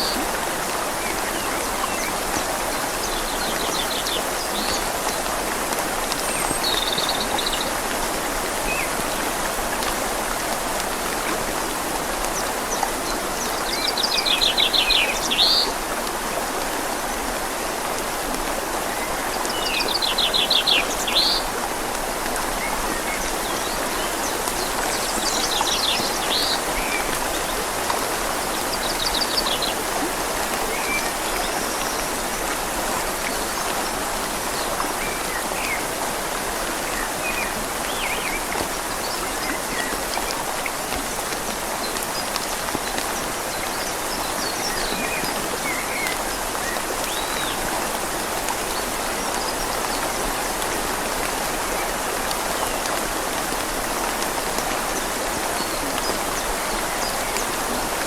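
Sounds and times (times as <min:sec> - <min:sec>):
rain falling on leaves: 0:00.0 - 0:58.0
river flowing: 0:00.0 - 0:58.0.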